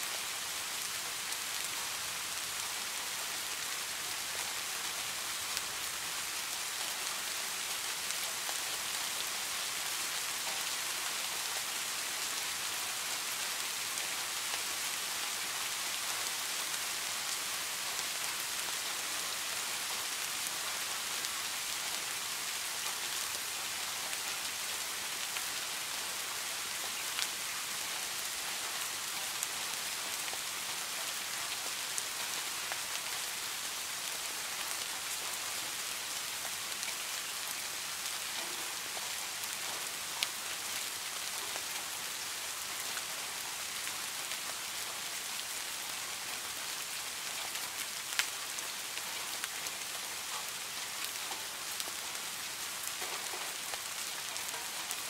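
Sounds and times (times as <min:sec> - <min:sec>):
rain falling on pond water: 0:00.0 - 0:55.0.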